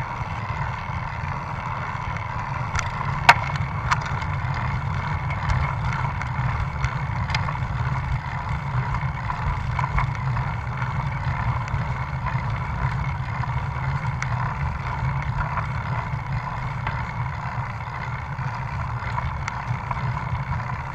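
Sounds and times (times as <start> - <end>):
bicycle tyre road noise: 0.0 - 20.9
small clicks and rattles: 0.0 - 20.9.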